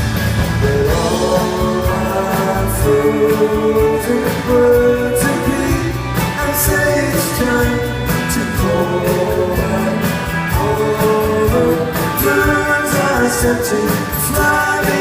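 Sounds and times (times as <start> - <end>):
live rock band with singing: 0.0 - 15.0.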